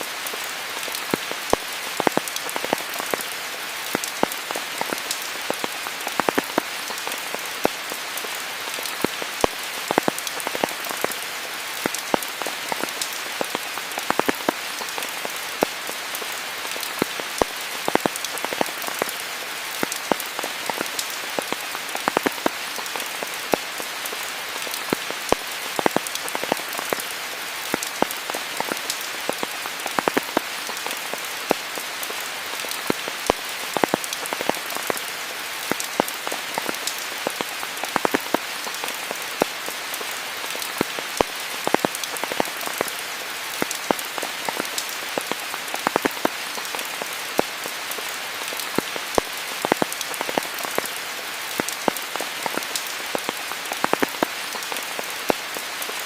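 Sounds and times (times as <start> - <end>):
rain falling on foliage: 0.0 - 56.0.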